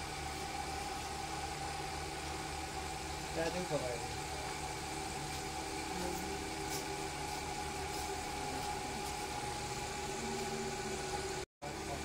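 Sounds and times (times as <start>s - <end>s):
constant whine: 0.0s - 12.0s
fan motor humming: 0.0s - 12.0s.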